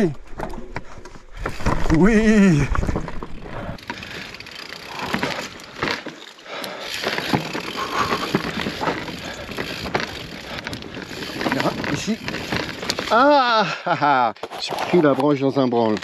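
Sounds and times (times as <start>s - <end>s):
bike tyres crunching over stones: 0.0s - 13.4s
bike rattling: 0.0s - 16.0s.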